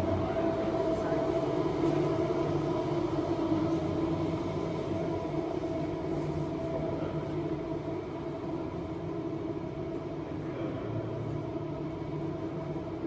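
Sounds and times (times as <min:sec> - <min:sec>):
mechanical hum and rumble: 0:00.0 - 0:13.0.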